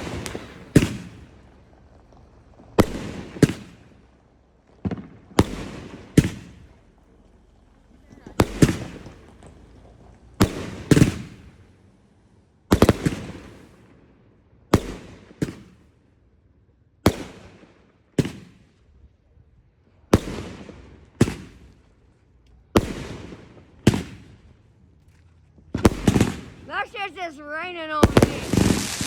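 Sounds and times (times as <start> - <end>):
fireworks exploding with crackling: 0.0 - 16.2, 17.0 - 18.9, 19.9 - 29.0.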